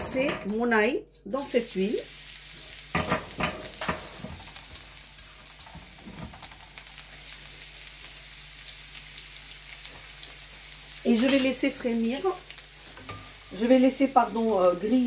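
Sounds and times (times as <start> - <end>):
garlic sizzling in hot oil: 0.4 - 15.0.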